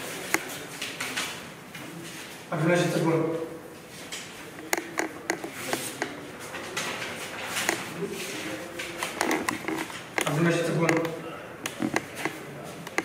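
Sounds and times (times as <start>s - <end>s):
paper rustling and tapping: 0.0s - 2.2s, 4.0s - 13.0s.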